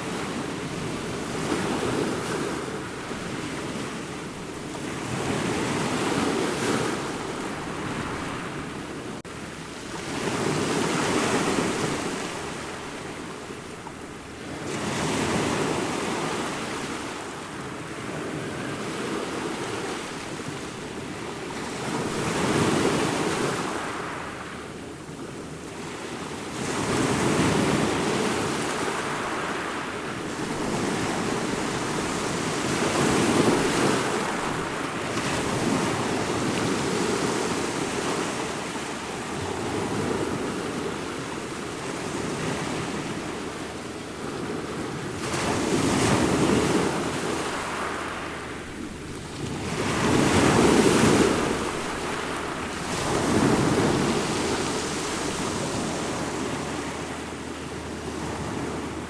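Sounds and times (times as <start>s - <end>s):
ocean waves crashing on shore: 0.0s - 59.0s.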